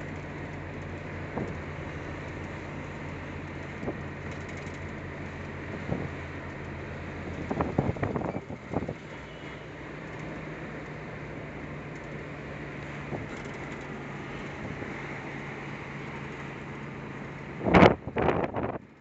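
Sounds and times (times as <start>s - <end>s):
heavy vehicle engine droning: 0.0s - 19.0s
road noise: 0.0s - 19.0s.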